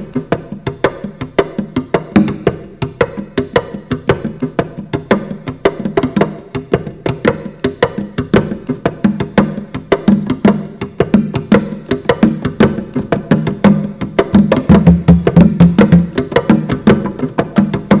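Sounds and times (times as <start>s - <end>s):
hand drum knocks: 0.0s - 18.0s.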